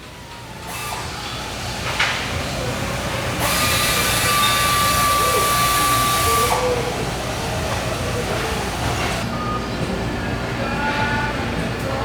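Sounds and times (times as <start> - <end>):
machine whining: 0.0 - 9.8.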